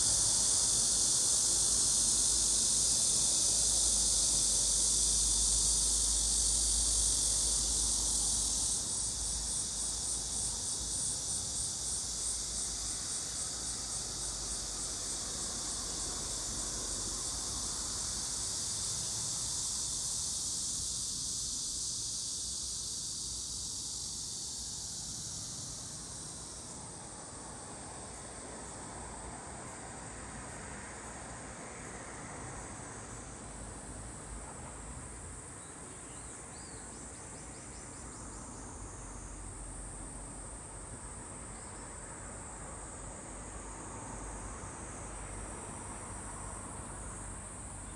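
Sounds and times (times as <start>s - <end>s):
cicadas buzzing: 0.0s - 47.9s.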